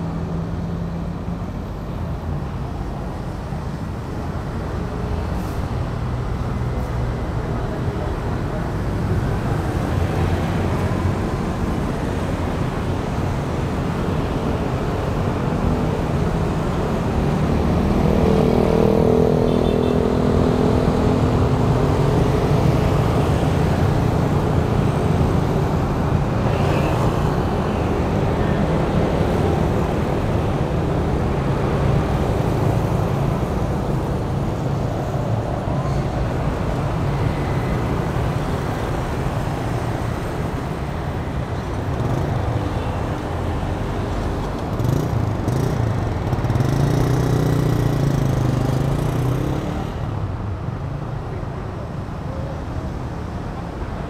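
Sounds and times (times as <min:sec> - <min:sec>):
motorbikes and cars passing: 0:00.0 - 0:54.0.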